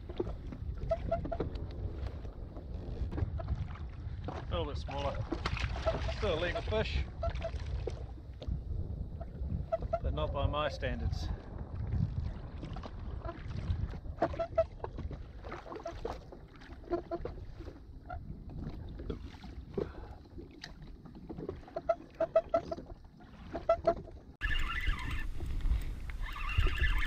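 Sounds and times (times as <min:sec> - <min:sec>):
rush of wind and water: 0:00.0 - 0:27.0
small waves lapping against hull: 0:00.0 - 0:27.0.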